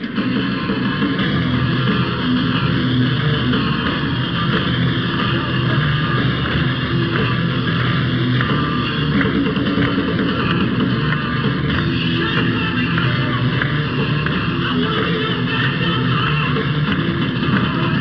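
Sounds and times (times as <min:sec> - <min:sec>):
distorted electric guitar: 0:00.0 - 0:18.0
rock band playing live: 0:00.0 - 0:18.0.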